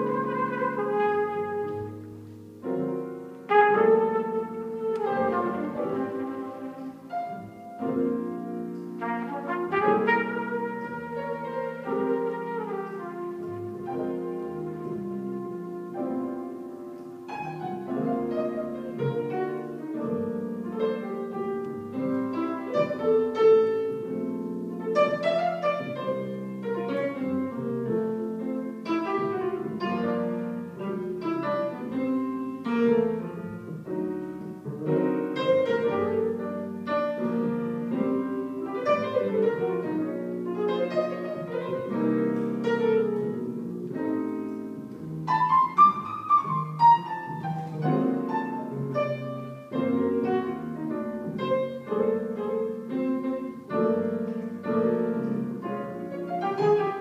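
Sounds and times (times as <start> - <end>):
double bass notes: 0.0 - 57.0
jazz piano: 0.0 - 57.0.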